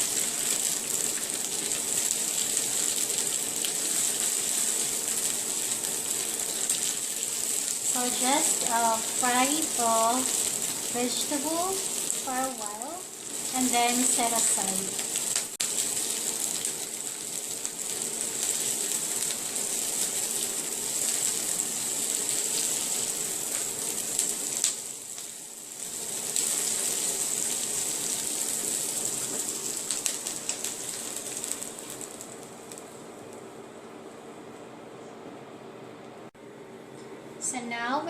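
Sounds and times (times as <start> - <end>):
vegetables sizzling in oil: 0.0 - 33.7.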